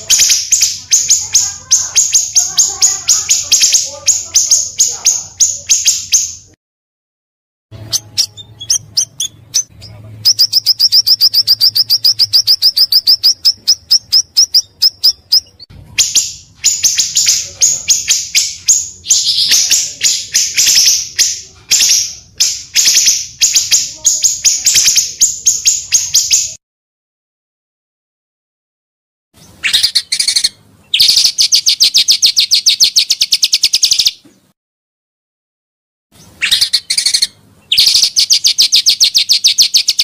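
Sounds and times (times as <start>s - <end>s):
recorded bird song chirping: 0.0s - 6.6s, 7.7s - 26.6s, 29.4s - 34.6s, 36.2s - 40.0s.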